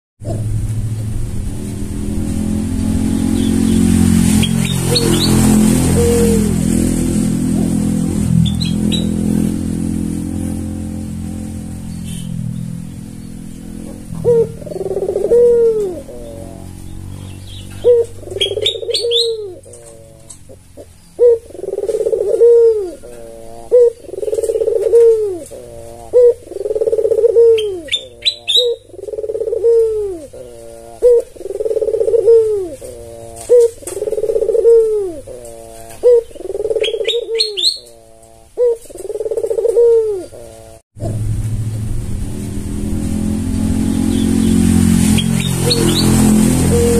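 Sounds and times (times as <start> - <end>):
dove cooing: 0.2 - 0.6, 2.3 - 41.2, 44.0 - 46.9
bird chirping high: 3.1 - 6.8, 7.6 - 9.6, 11.8 - 40.8, 43.5 - 46.9.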